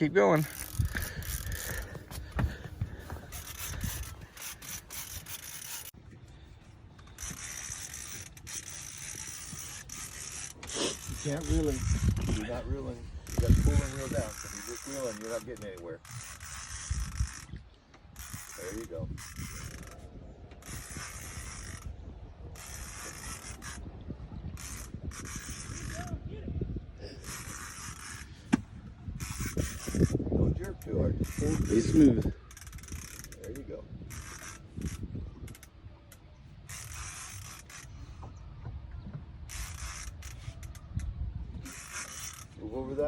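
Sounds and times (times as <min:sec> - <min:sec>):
fishing reel ratcheting and clicking: 0:00.0 - 0:06.0, 0:07.0 - 0:24.0, 0:24.6 - 0:26.2, 0:27.2 - 0:28.5, 0:29.1 - 0:38.0, 0:39.4 - 0:43.0.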